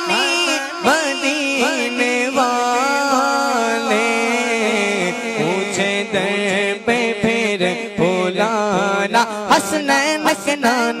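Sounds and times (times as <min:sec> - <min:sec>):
person singing wordless melody: 0:00.0 - 0:11.0.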